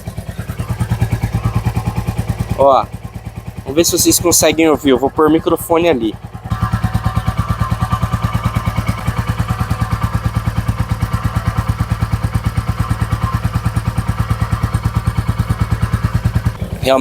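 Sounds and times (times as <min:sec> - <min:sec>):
exhaust heat shield vibrating: 0:00.0 - 0:17.0
motorcycle engine idling: 0:00.0 - 0:17.0.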